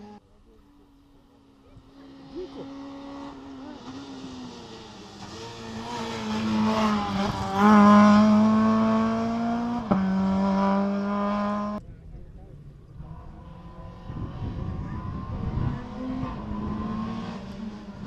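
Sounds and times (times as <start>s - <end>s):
rally car engine passing: 0.0s - 11.8s, 12.8s - 18.0s.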